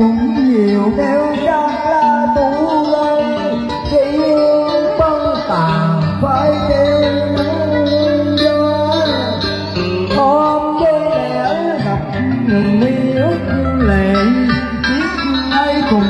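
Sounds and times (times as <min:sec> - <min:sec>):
slow song with bass and guitar: 0:00.0 - 0:16.0.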